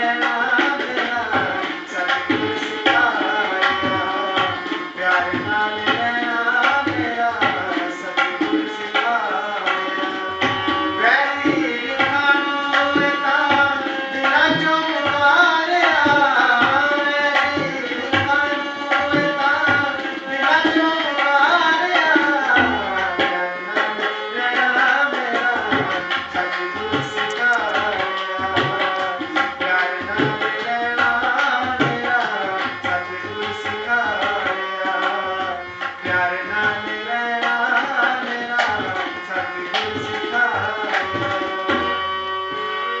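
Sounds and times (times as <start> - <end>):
harmonium chords: 0.0 - 43.0
tabla strokes: 0.0 - 43.0.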